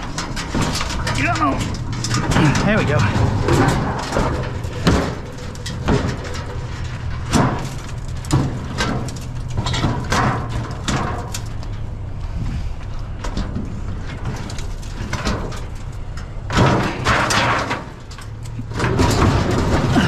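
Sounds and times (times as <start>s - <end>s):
sheet metal clanking: 0.0s - 12.2s, 13.0s - 20.0s
low hum: 0.0s - 20.0s
metal scraping and rattling: 0.0s - 20.0s.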